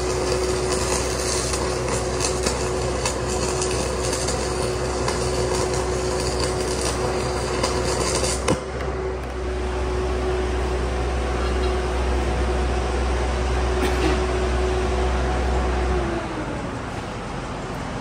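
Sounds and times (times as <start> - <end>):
welding arc crackle: 0.0 - 15.9
welding machine engine humming: 0.0 - 18.0.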